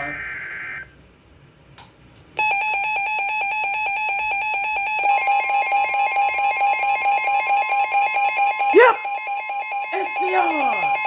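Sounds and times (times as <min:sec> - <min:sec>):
steady higher alarm tone: 0:00.0 - 0:00.9, 0:02.4 - 0:11.0.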